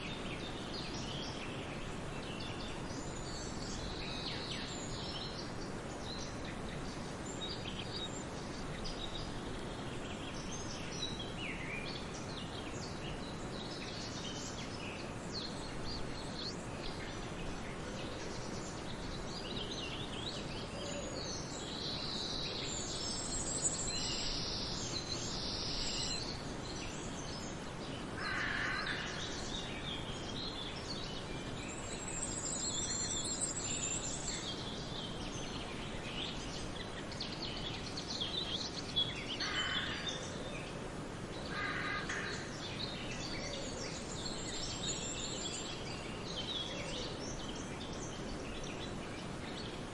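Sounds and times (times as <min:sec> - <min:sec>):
background hiss: 0:00.0 - 0:49.9
birds chirping and trilling: 0:00.0 - 0:49.9.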